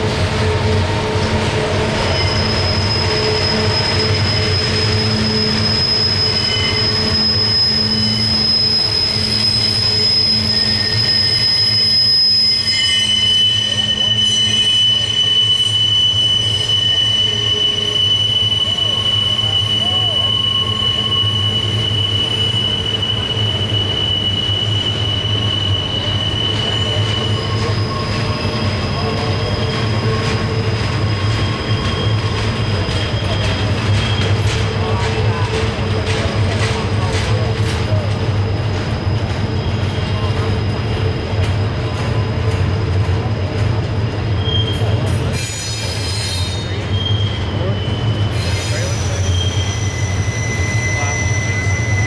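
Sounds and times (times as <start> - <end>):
low rumble of train wheels: 0.0 - 52.0
train wheels squealing on rail: 0.0 - 52.0.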